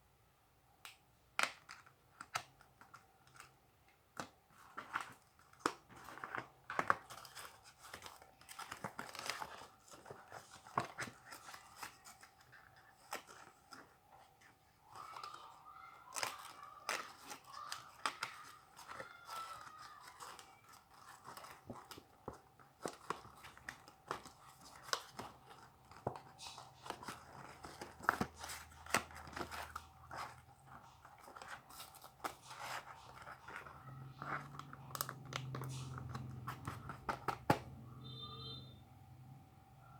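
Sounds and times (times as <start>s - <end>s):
plastic tearing and crinkling: 1.4s - 37.6s.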